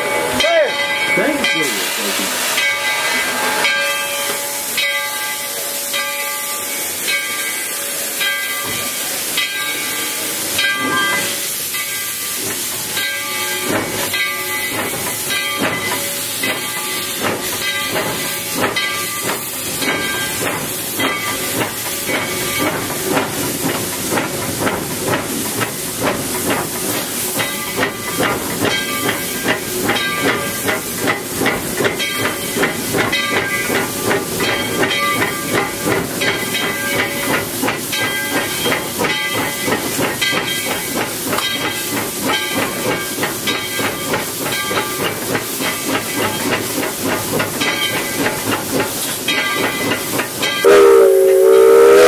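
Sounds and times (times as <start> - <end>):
steam locomotive exhaust beats: 0.0 - 52.0
steam hissing: 1.0 - 52.0.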